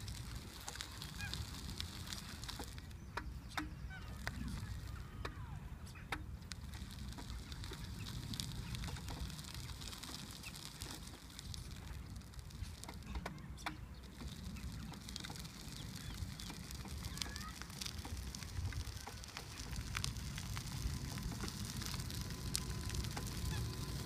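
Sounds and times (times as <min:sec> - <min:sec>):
gravel crunching under tyres: 0:00.0 - 0:24.0
wind on the microphone: 0:00.0 - 0:24.0.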